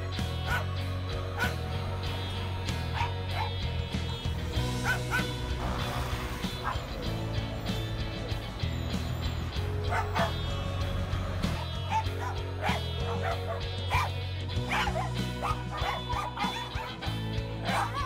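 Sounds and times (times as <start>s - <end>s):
background music with bass: 0.0s - 18.0s
dogs yelping and barking: 0.3s - 1.8s, 2.6s - 18.0s.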